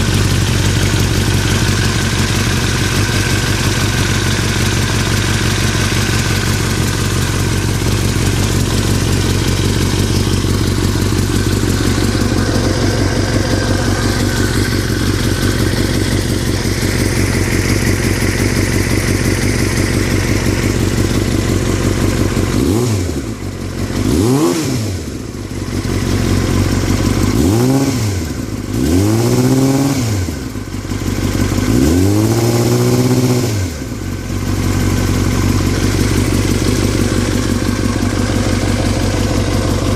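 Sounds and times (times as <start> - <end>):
engine rattle: 0.0 - 39.9
motorcycle engine idling and revving: 0.0 - 39.9.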